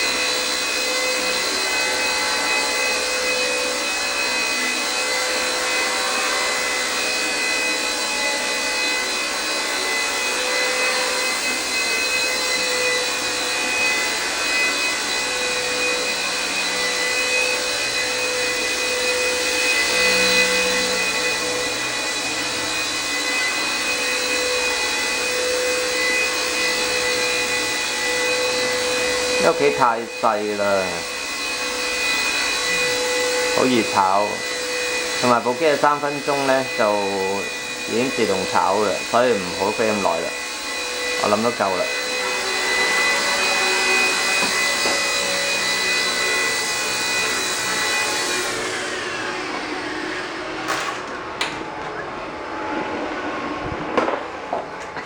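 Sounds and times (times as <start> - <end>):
toy helicopter motor whine: 0.0 - 55.0.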